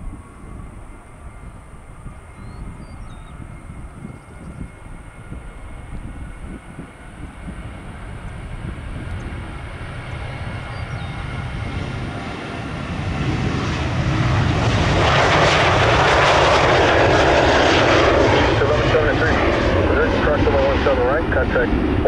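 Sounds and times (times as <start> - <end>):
jet airliner engines rumbling: 0.0 - 22.0.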